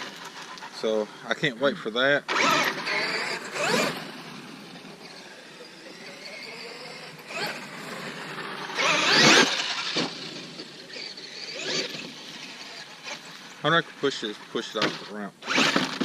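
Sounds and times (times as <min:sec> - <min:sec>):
electric motor whining: 0:02.3 - 0:14.8, 0:15.4 - 0:16.0.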